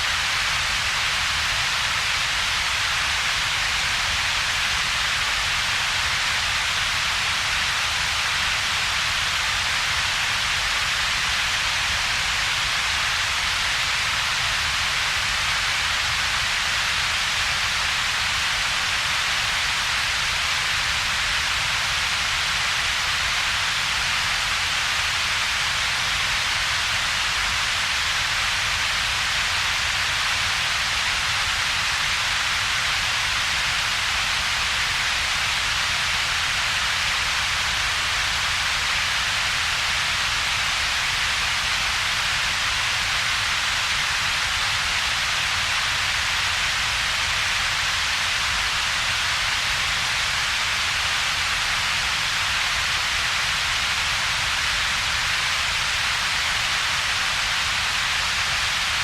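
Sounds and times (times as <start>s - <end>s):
synthetic steady hiss: 0.0s - 59.0s.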